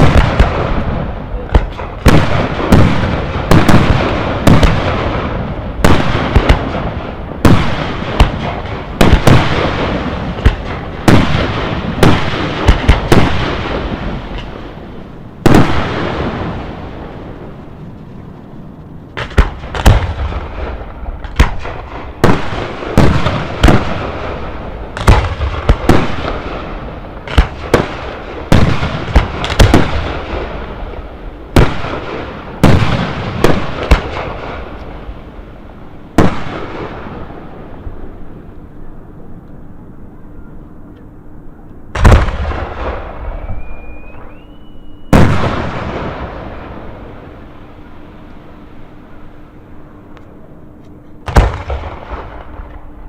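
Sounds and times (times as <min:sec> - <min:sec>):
firework shells booming: 0:00.0 - 0:17.8, 0:19.1 - 0:35.1, 0:36.1 - 0:37.8, 0:41.9 - 0:47.2, 0:51.2 - 0:53.0.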